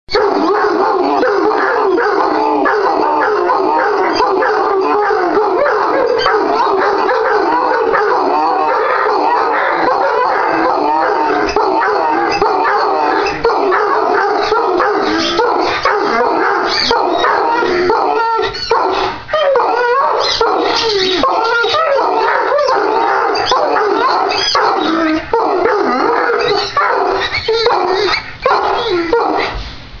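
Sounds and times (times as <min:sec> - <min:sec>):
dogs howling in chorus: 0:00.1 - 0:29.5
dogs barking and yipping: 0:00.1 - 0:29.6.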